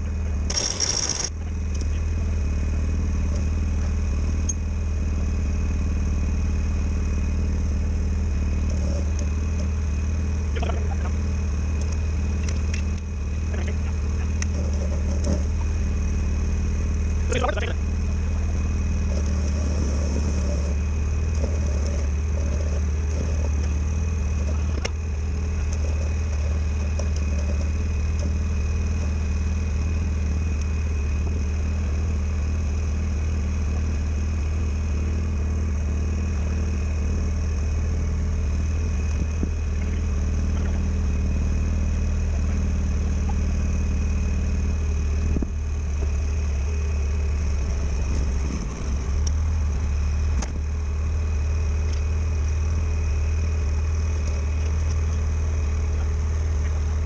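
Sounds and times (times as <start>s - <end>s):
faint high whine: 0.0s - 57.0s
machine hum: 0.0s - 57.0s.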